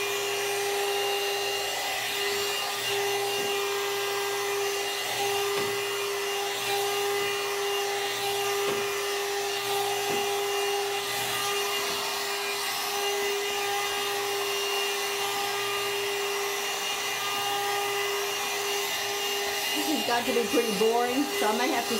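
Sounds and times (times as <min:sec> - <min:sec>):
hair dryer motor whine: 0:00.0 - 0:21.9.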